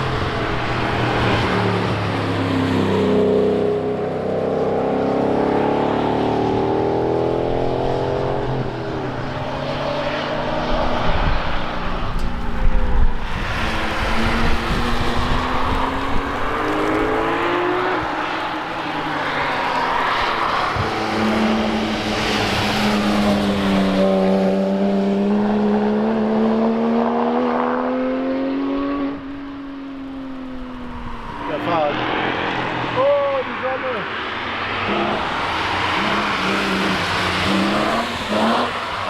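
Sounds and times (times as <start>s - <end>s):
car engines driving past: 0.0s - 39.0s.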